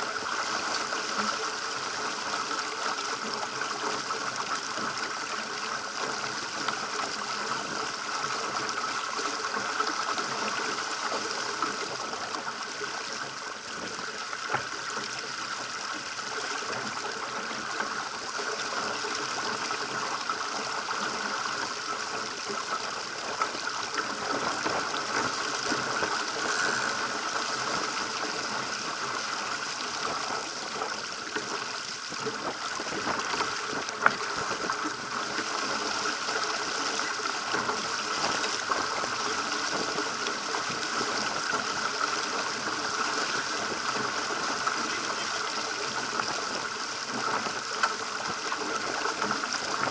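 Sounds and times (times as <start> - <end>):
water rushing along a hull: 0.0 - 49.9.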